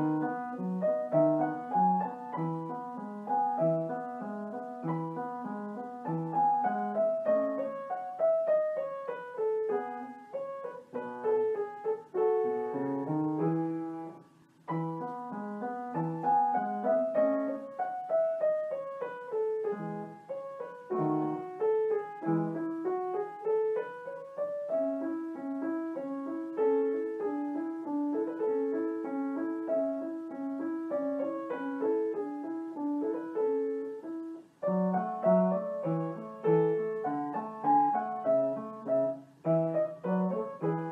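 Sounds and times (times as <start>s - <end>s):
piano music: 0.0s - 40.9s.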